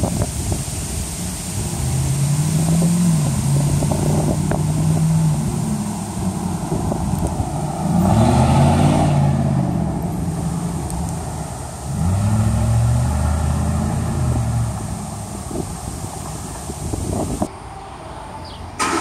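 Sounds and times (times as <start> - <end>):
truck engine accelerating: 0.8 - 17.5.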